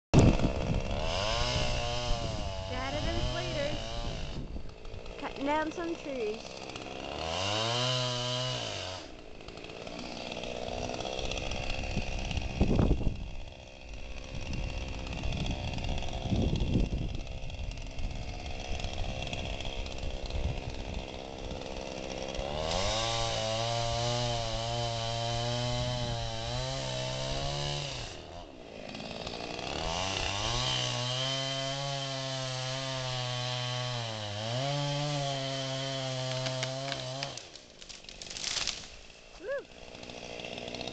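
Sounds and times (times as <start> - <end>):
chainsaw cutting wood: 0.2 - 40.9.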